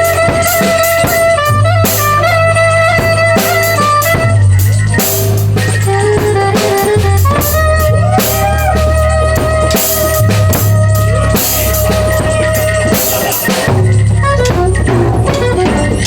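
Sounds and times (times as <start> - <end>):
drum kit beat: 0.0 - 16.0
gliding lead melody: 0.0 - 16.0
guitar: 0.0 - 16.0
heavy bass line: 0.0 - 16.0.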